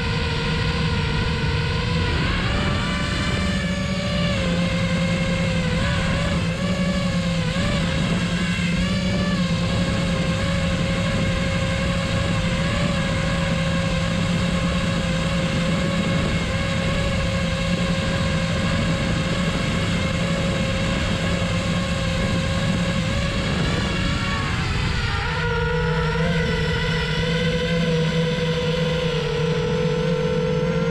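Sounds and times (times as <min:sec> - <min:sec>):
drone propellers whirring: 0:00.0 - 0:30.9.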